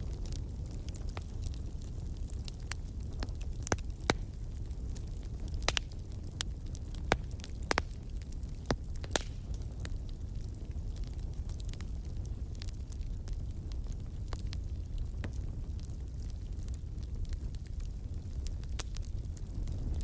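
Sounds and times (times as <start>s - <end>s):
fireplace fire crackling: 0.0s - 20.0s
low rumble of fire: 0.0s - 20.0s
sharp pops from fire: 0.0s - 20.0s.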